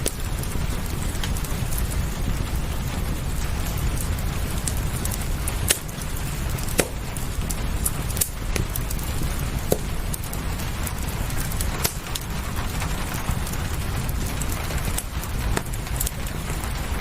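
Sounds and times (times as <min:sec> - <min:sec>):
fire popping: 0:00.0 - 0:17.0
steady rain: 0:00.0 - 0:17.0
wood fire crackling: 0:00.0 - 0:17.0.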